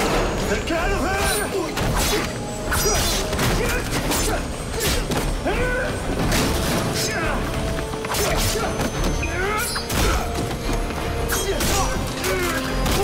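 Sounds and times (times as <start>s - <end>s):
action film music: 0.0s - 13.0s.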